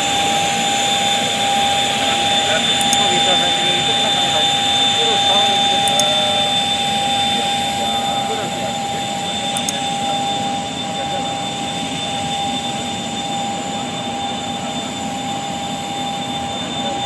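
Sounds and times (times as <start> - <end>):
jet engine running: 0.0 - 17.0.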